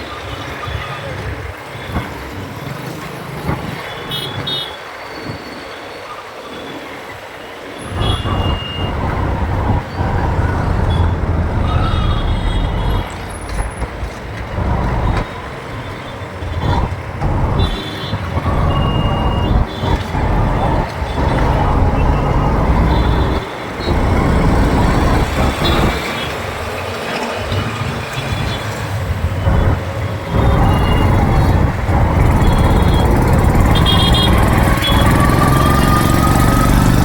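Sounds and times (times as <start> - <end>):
traffic engines and road noise: 0.0 - 37.0.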